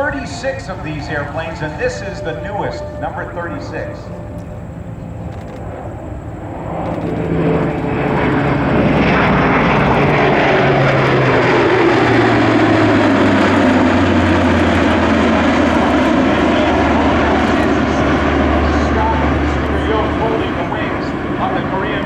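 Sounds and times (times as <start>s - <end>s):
propeller aircraft flyby drone: 0.0s - 22.0s.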